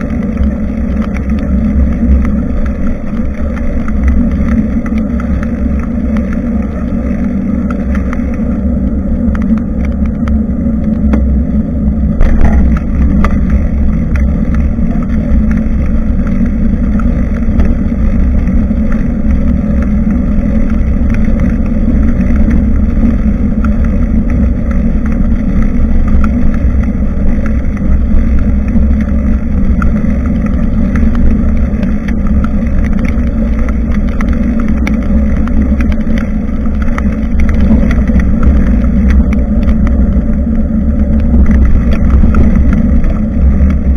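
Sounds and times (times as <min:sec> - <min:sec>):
road vibration: 0:00.0 - 0:43.9
wind buffeting microphone: 0:00.0 - 0:43.9.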